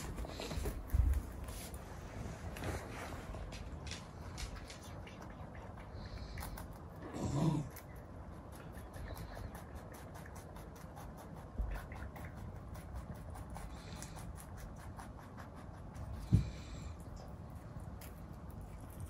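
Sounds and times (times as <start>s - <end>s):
rabbit chewing: 0.0s - 19.0s.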